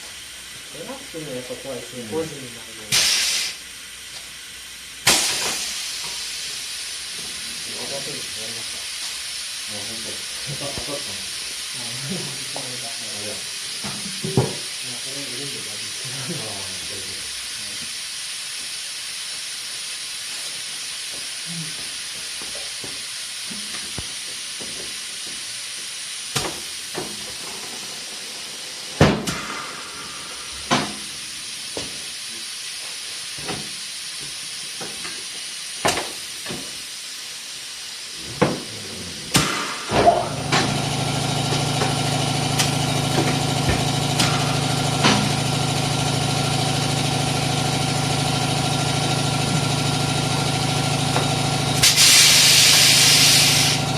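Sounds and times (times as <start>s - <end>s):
compressed air hissing: 0.0s - 47.1s, 49.1s - 53.9s.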